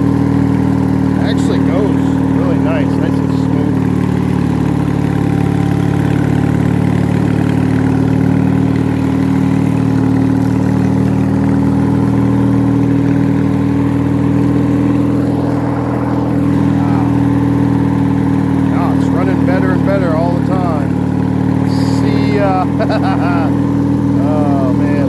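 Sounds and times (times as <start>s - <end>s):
lawn tractor engine running: 0.0s - 25.0s.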